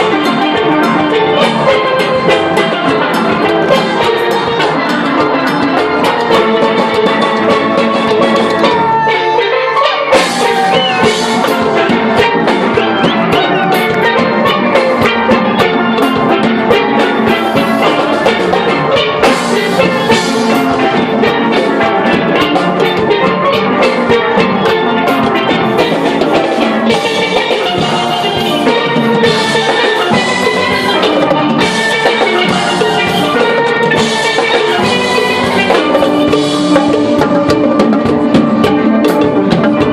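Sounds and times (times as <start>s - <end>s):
steady drum beat: 0.0s - 39.9s
steelpans playing a tune: 0.0s - 39.9s.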